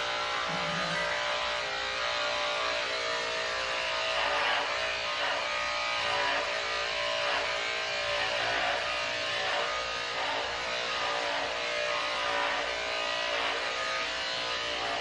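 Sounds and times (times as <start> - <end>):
electric clippers humming: 0.0 - 15.0.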